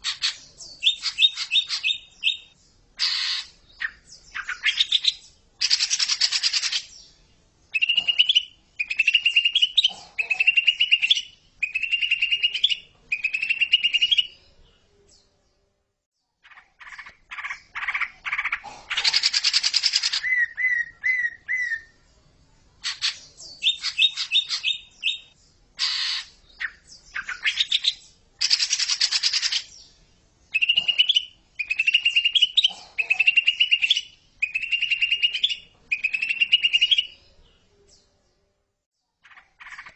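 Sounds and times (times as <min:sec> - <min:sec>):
bird singing chattering song: 0:00.0 - 0:15.4, 0:16.3 - 0:22.1, 0:22.8 - 0:39.9.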